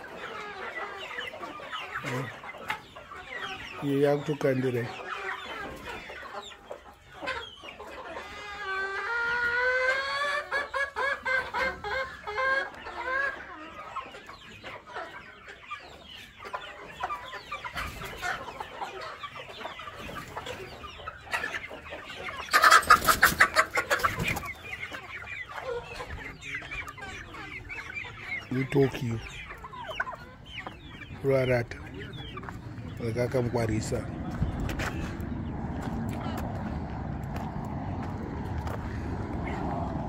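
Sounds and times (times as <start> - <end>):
chickens clucking: 0.0 - 40.0.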